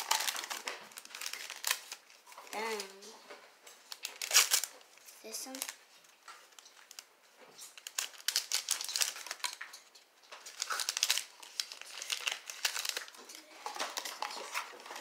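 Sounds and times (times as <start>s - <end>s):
plastic packaging crackling: 0.0s - 15.0s.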